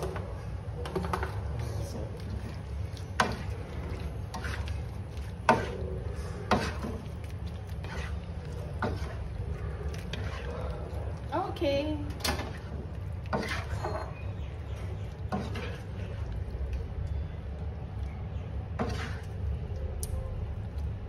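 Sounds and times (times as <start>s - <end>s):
spatula stirring food in a wok: 0.0s - 19.6s
steady low hum: 0.0s - 21.0s.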